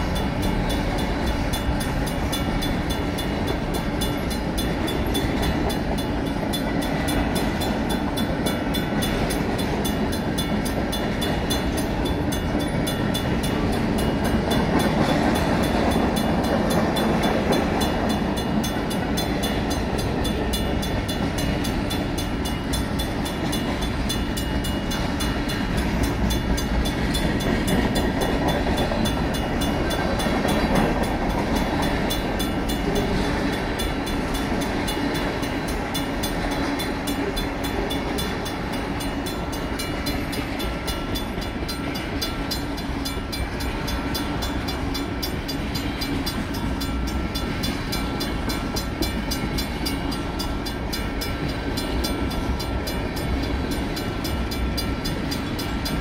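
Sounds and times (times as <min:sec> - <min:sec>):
crossing bell ringing: 0:00.0 - 0:56.0
train wheels rumbling on rails: 0:00.0 - 0:56.0.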